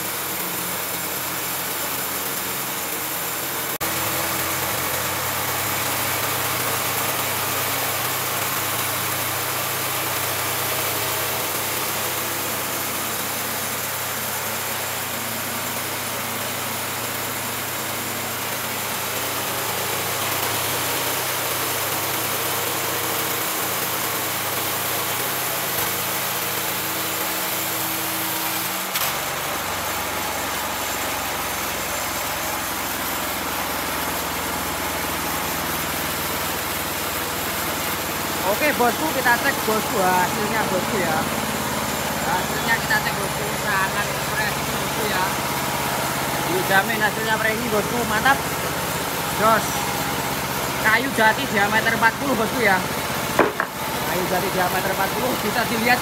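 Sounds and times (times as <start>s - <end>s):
band saw blade cutting log: 0.0s - 56.0s
engine hum: 0.0s - 56.0s.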